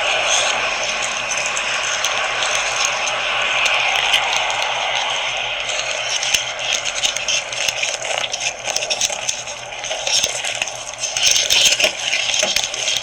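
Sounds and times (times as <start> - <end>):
scraping and rustling: 0.0 - 13.0
small clicks and rattles: 0.0 - 13.0.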